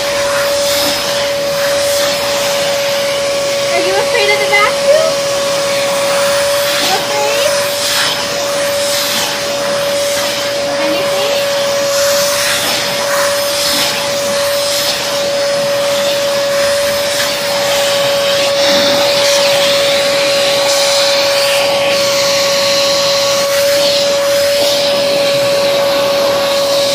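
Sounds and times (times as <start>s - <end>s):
vacuum cleaner motor whine: 0.0s - 26.9s
vacuum suction hiss: 0.0s - 26.9s.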